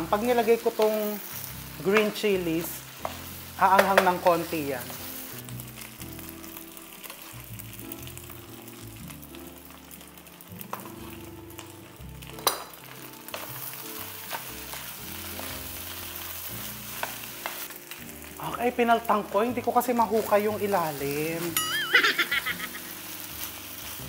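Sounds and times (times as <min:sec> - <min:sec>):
rice sizzling in a wok: 0:00.0 - 0:24.0
wooden spoon scraping wok: 0:00.1 - 0:06.0, 0:09.6 - 0:18.6, 0:19.2 - 0:24.0.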